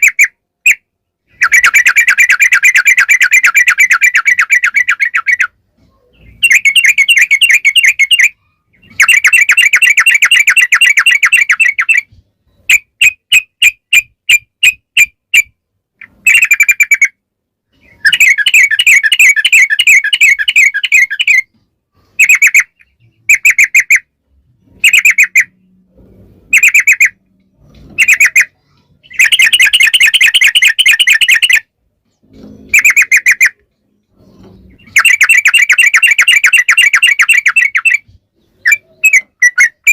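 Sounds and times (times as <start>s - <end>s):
bird chattering song: 0.0s - 25.8s, 26.5s - 39.9s.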